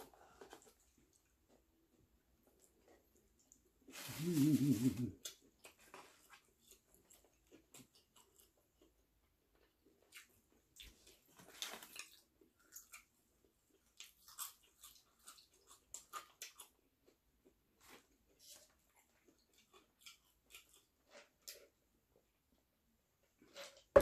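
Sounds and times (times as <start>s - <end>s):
chewing and crunching food: 0.0s - 4.0s, 5.1s - 22.6s.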